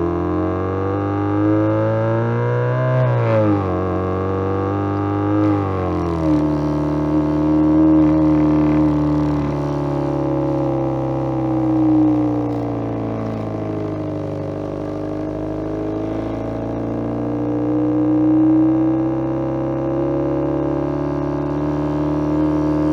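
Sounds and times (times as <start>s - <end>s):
electronic engine-like drone: 0.0s - 22.9s.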